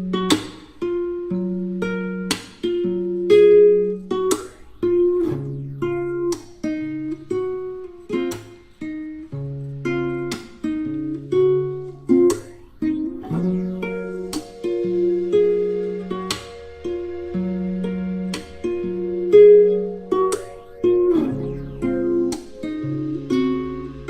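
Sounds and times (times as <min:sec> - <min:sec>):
acoustic guitar plucking melody: 0:00.0 - 0:24.0.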